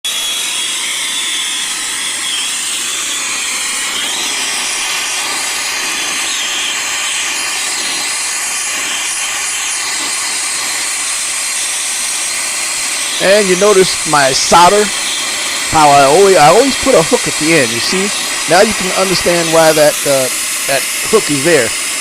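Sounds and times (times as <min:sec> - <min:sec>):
gas torch flame hissing: 0:00.1 - 0:22.0.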